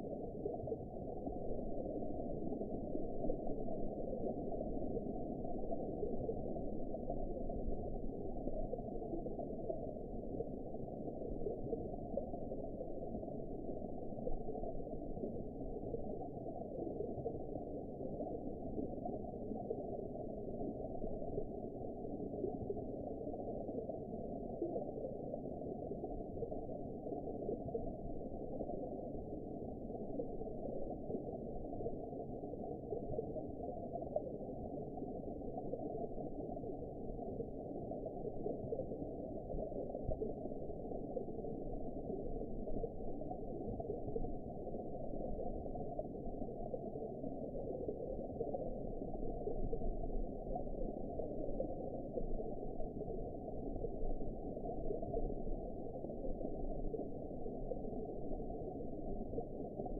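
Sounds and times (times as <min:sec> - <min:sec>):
muffled underwater wash: 0:00.0 - 0:59.9.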